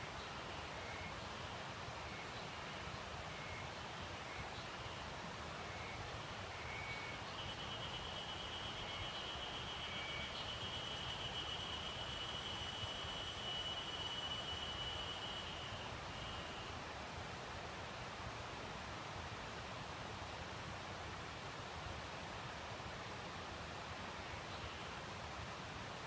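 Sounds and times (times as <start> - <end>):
steady hiss of woods: 0.0 - 26.0.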